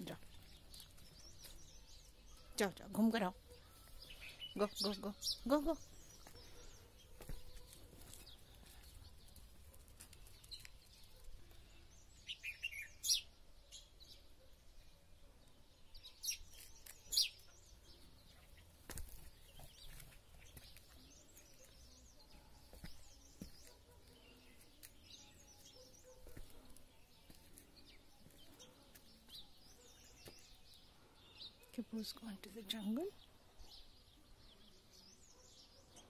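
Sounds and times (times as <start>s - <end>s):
wild birds chirping: 0.0s - 36.0s.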